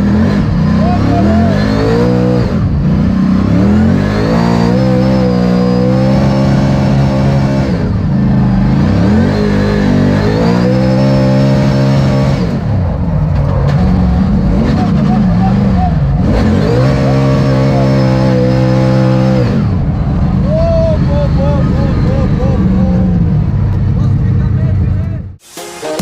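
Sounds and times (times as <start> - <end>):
race car engine revving: 0.0 - 25.3.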